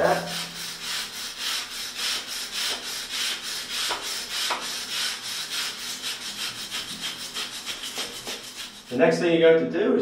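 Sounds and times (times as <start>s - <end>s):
wire brush scrubbing metal: 0.0s - 9.2s.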